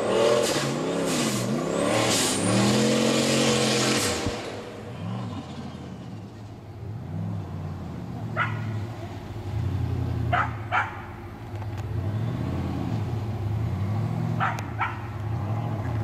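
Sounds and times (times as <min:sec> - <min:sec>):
buggy engine revving: 0:00.0 - 0:10.8, 0:11.6 - 0:16.0.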